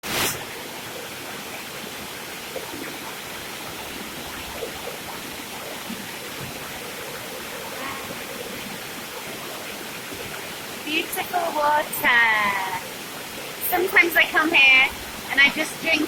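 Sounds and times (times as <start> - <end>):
river water rushing and splashing: 0.0 - 16.0.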